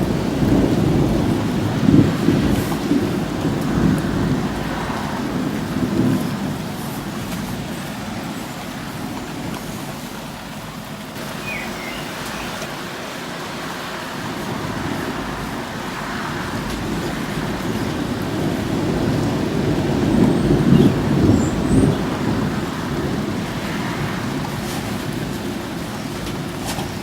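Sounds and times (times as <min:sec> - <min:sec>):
steady rain hiss: 0:00.0 - 0:27.0
thunder rumbling: 0:00.0 - 0:27.0.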